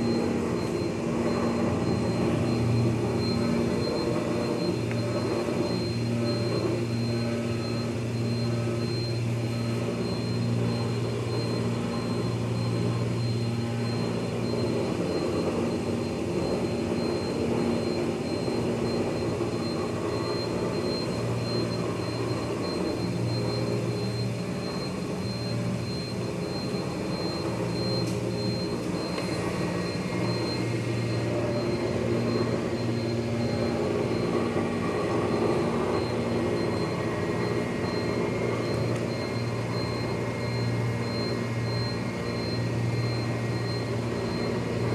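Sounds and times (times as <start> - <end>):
faint high whine: 0.0 - 44.9
machinery rumble: 0.0 - 44.9.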